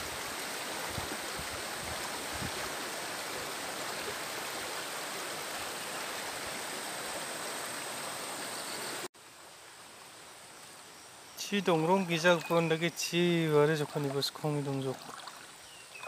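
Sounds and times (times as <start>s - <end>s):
floodwater rushing: 0.0s - 9.1s, 11.4s - 16.0s
faint calm water: 0.0s - 16.0s.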